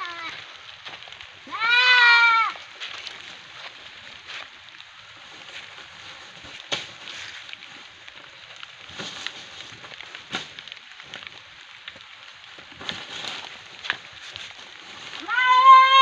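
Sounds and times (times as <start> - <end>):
dry leaves rustling and crackling: 0.0 - 16.0.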